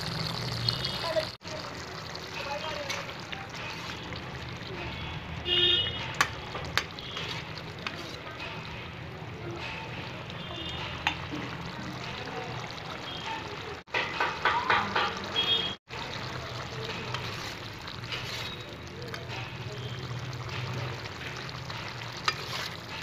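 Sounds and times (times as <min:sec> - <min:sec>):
gravy bubbling in a pan: 0:00.0 - 0:23.0.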